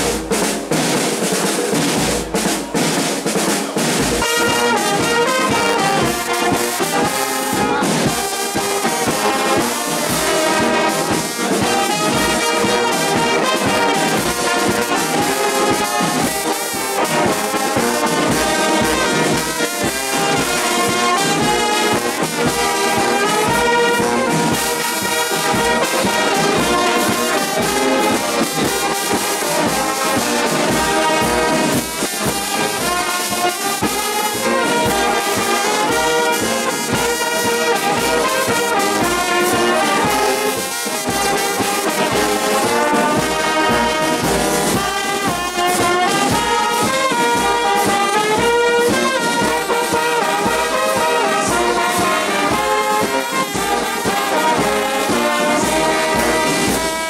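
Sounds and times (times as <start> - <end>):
brass band playing: 0.0 - 57.0.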